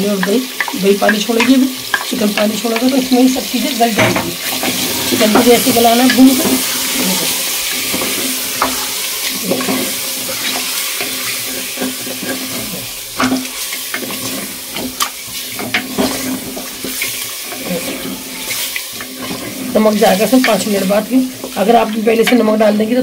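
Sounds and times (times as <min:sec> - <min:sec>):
chicken sizzling in a pot: 0:00.0 - 0:23.0
wooden spatula scraping a pot: 0:00.2 - 0:22.8.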